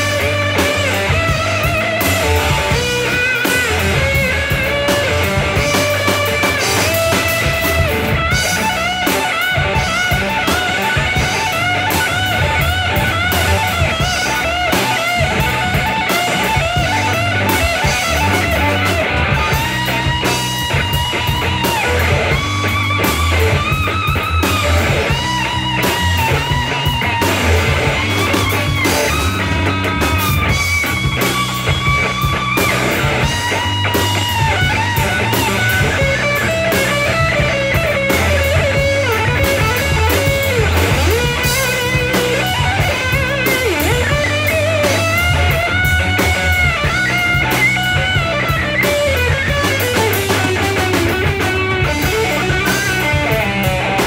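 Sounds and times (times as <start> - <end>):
bass line: 0.0 - 54.0
drums: 0.0 - 54.0
electric guitar solo: 0.0 - 54.0.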